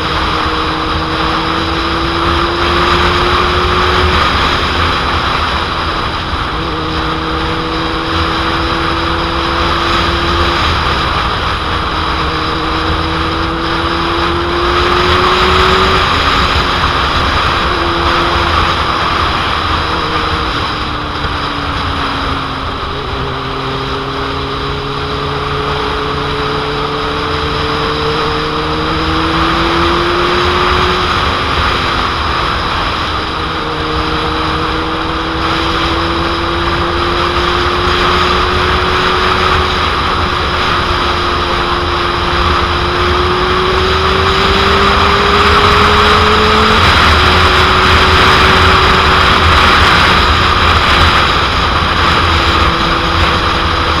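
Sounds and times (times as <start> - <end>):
motorcycle engine droning: 0.0 - 54.0
wind buffeting microphone: 0.0 - 54.0.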